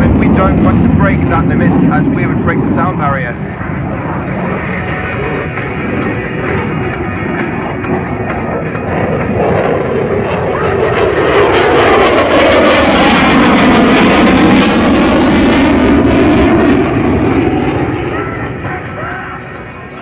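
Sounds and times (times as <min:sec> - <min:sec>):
jet fighter flying past: 0:00.0 - 0:20.0.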